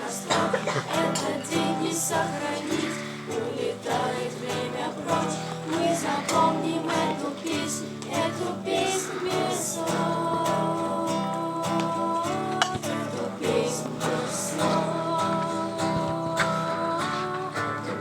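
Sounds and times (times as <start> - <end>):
acoustic guitar strumming: 0.0 - 18.0
people singing: 0.0 - 18.0.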